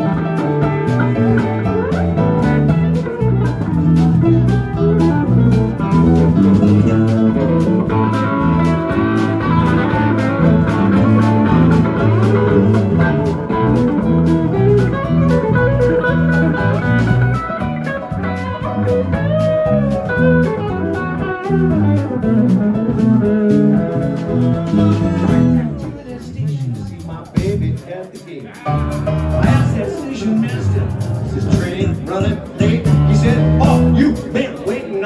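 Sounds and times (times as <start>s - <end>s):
electric guitar: 0.0s - 26.2s, 28.6s - 35.0s
blues-rock band playing: 0.0s - 35.0s.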